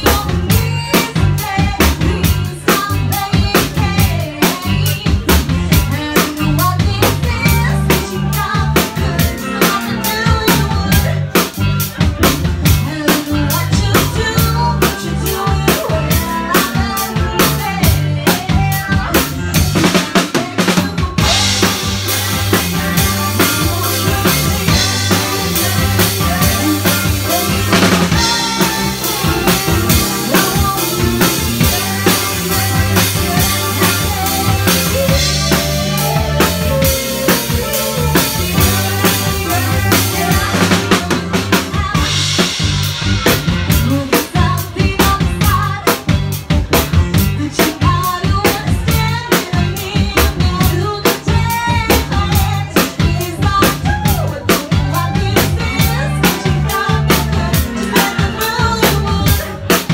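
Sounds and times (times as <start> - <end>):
live band playing dance-pop: 0.0 - 59.9
woman singing: 0.0 - 59.9.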